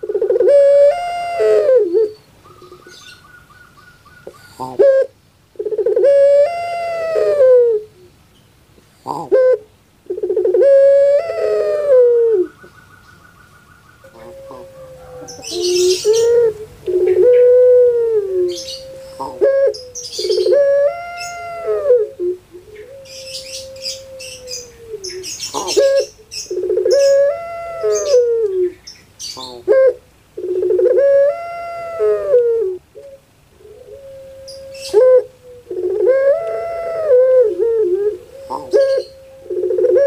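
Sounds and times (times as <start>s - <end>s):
dove cooing: 0.0s - 8.2s, 9.0s - 40.0s.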